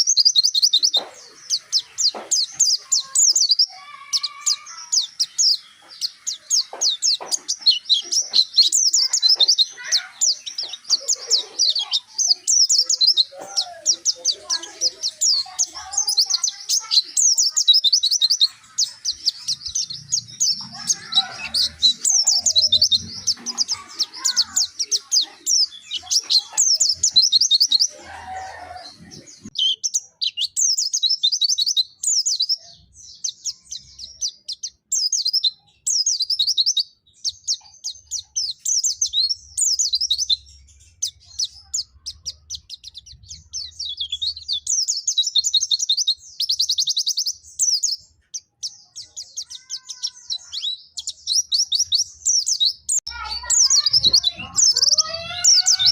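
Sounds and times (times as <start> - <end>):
songbird chattering song: 0.0 - 55.9.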